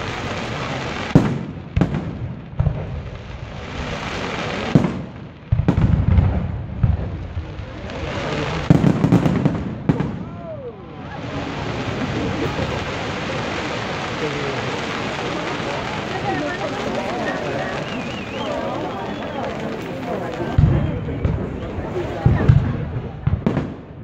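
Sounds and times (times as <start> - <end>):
crackle of exploding stars: 0.0 - 24.0.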